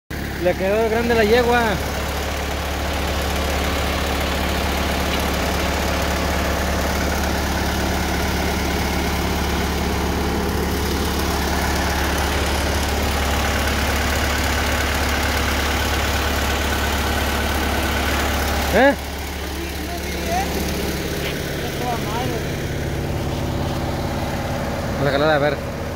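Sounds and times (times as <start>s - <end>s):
chipper engine humming: 0.1s - 25.9s.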